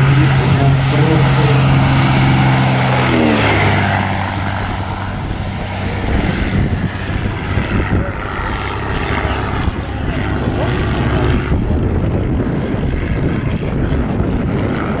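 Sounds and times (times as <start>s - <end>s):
model airplane engine drone: 0.0s - 15.0s.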